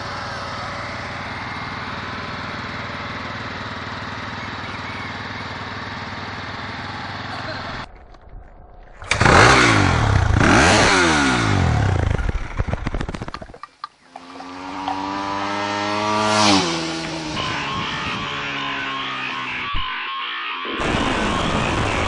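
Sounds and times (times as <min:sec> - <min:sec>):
dirt bike engines revving: 0:00.0 - 0:08.3, 0:09.0 - 0:13.2, 0:14.0 - 0:22.0.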